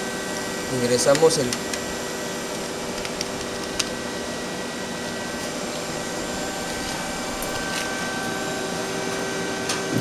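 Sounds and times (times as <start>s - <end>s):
hydraulic unit humming: 0.0s - 10.0s
steady whining tones: 0.0s - 10.0s.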